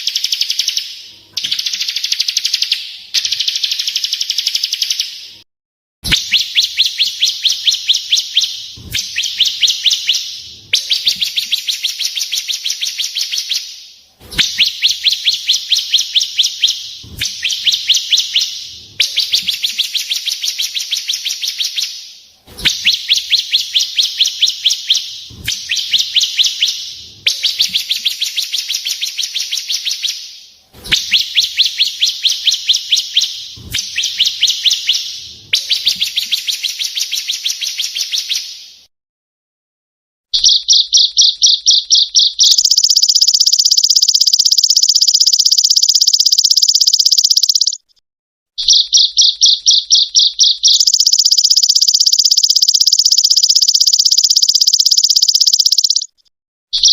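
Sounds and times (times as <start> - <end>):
recorded songbird trilling: 0.0 - 5.2, 6.1 - 13.8, 14.4 - 22.0, 22.6 - 30.2, 30.9 - 38.5, 40.4 - 47.9, 48.6 - 56.2.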